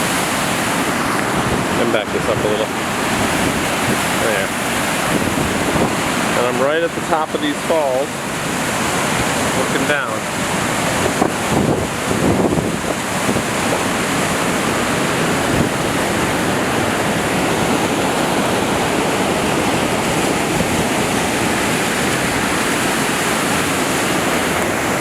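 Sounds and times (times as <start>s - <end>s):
waterfall and rapids rushing: 0.0s - 25.0s.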